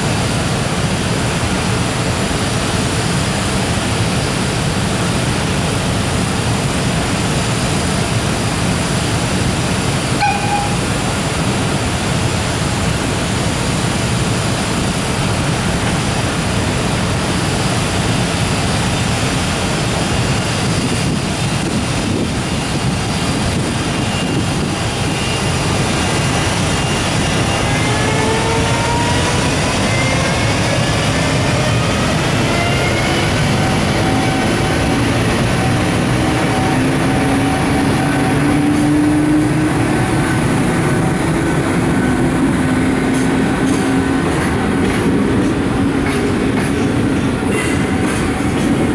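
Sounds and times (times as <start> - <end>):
freight train rolling: 0.0 - 48.9
rising whine of locomotive motor: 0.0 - 48.9.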